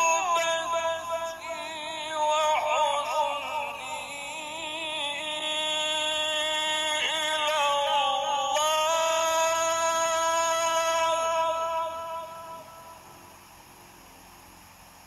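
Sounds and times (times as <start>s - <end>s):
man chanting melodically: 0.0s - 13.1s.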